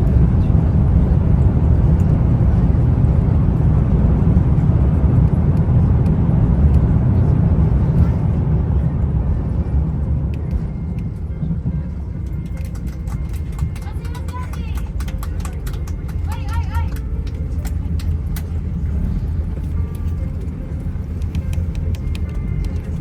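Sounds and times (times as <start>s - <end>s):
aircraft landing rumble: 0.0s - 23.0s.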